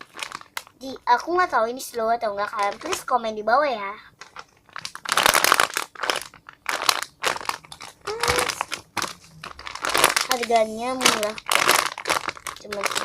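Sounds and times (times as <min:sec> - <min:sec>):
plastic packaging crinkling: 0:00.0 - 0:01.4, 0:02.3 - 0:03.4, 0:04.2 - 0:13.0.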